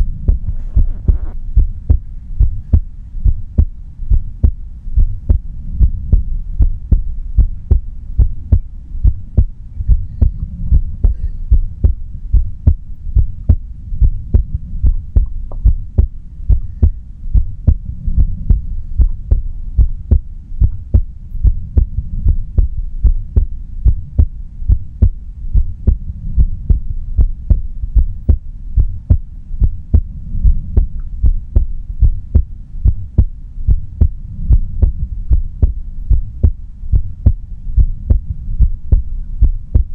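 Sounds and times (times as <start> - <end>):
heartbeat: 0.0 - 39.9.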